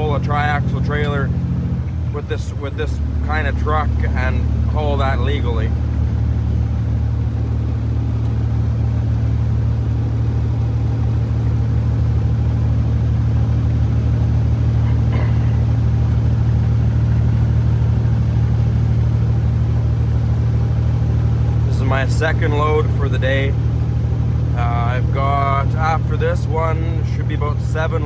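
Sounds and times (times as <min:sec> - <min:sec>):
truck diesel engine running: 0:00.0 - 0:28.0.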